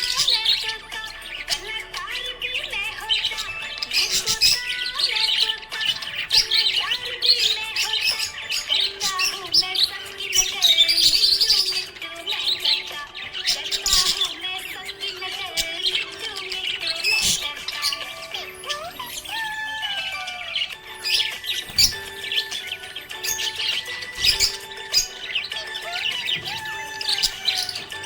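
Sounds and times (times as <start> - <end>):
budgerigar chirping: 0.0 - 28.0.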